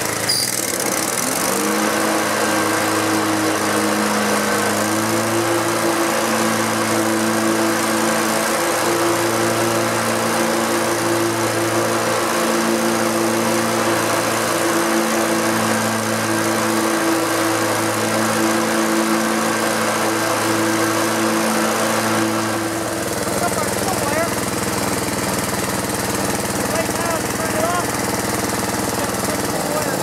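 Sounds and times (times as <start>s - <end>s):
mower engine running steadily: 0.0s - 30.0s.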